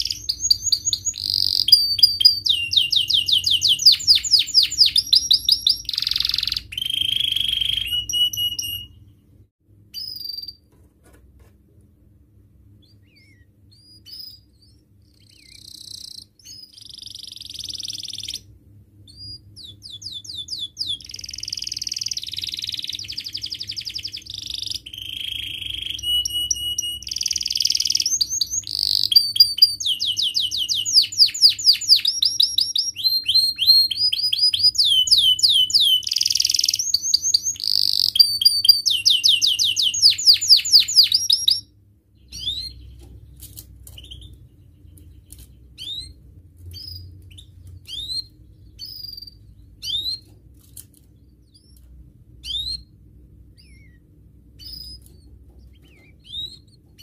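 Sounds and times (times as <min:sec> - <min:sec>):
canary singing trills: 0:00.0 - 0:09.3, 0:09.9 - 0:10.7, 0:12.7 - 0:50.4, 0:51.0 - 0:57.0.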